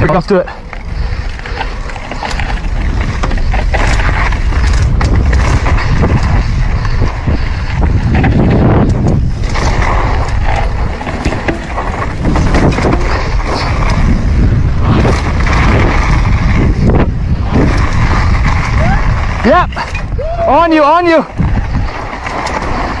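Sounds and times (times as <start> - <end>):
bicycle frame rattling: 0.0 - 23.0
wind buffeting microphone: 0.0 - 23.0.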